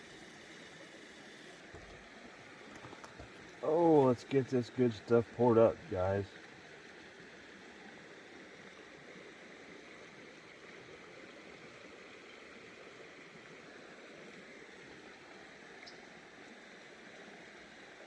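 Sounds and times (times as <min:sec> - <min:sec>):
creek water running over rapids: 0:00.0 - 0:18.0.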